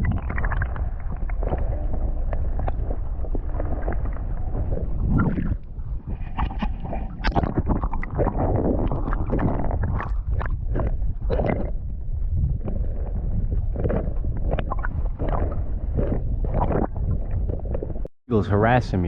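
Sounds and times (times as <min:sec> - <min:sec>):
water splashing: 0:00.0 - 0:18.0
wind rumbling on microphone: 0:00.0 - 0:18.1.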